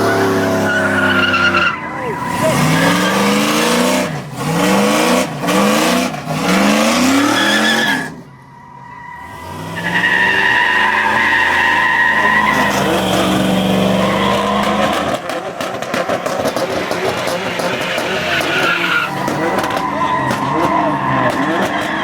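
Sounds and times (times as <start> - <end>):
car engine revving: 0.0 - 22.0
tyres squealing: 0.0 - 22.0.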